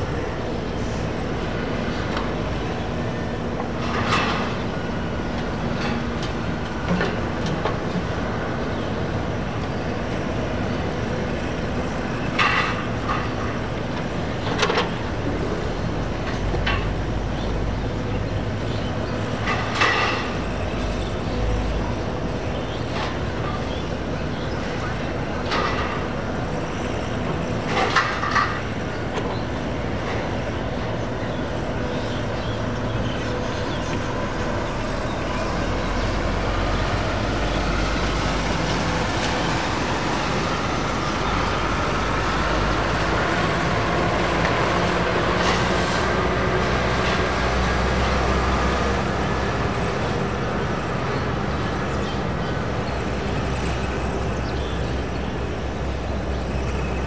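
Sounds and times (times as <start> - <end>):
airliner engines rumbling: 0.0 - 57.0
faint engine whine: 0.0 - 57.0.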